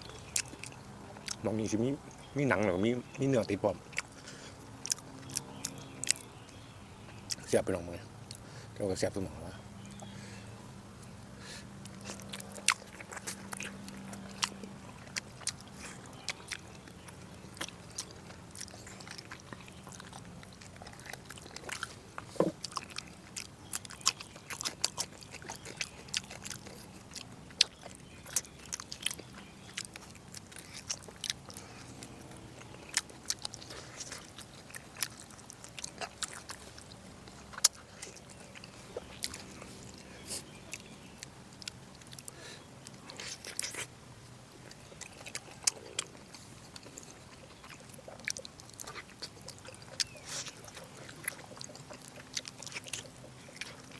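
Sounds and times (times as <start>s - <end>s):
chewing and mouth sounds: 0.0s - 53.9s
faint steady hum: 0.0s - 53.9s.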